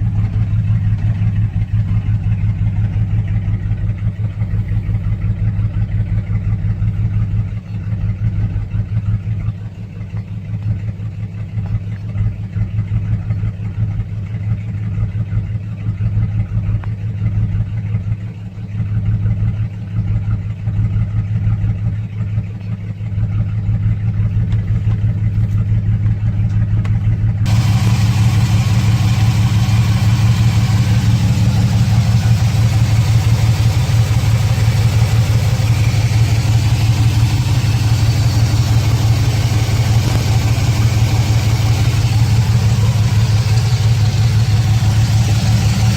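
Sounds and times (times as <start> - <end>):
engine idling rough: 0.0 - 45.9.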